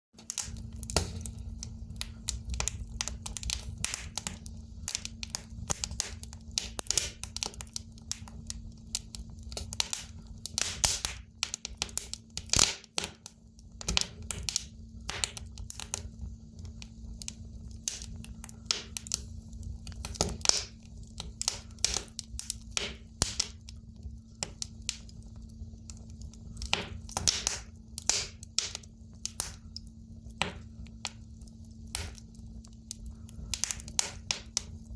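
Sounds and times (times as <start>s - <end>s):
burning logs crackling and popping: 0.2s - 34.9s
fire low rumble: 0.2s - 34.9s.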